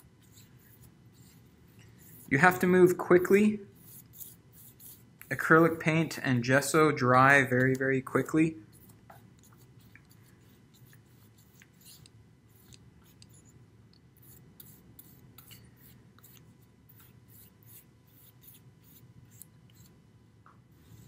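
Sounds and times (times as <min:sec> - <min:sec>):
paintbrush scratching on board: 0:00.0 - 0:06.2, 0:07.4 - 0:13.5, 0:14.2 - 0:20.0.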